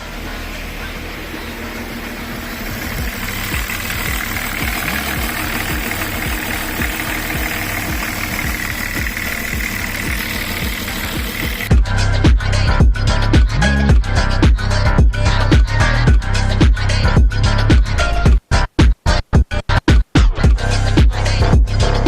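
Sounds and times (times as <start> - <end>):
diesel engine idling with clatter: 0.0 - 18.0.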